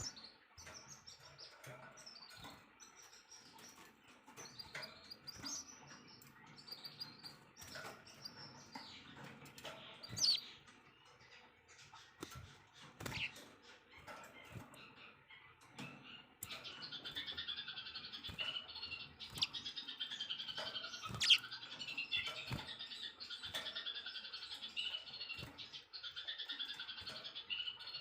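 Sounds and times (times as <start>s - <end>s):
songbird chirping: 0.0s - 28.0s.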